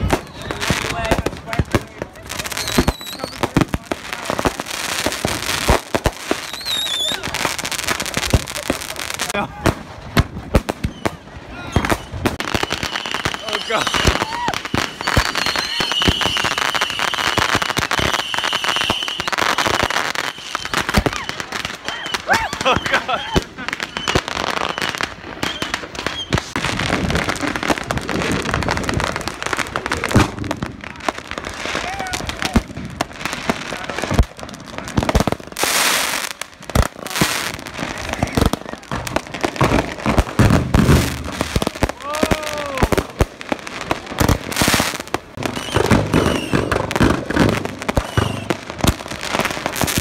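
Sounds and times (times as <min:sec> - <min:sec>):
firecrackers crackling and popping: 0:00.0 - 0:50.0
firework bangs: 0:00.0 - 0:50.0.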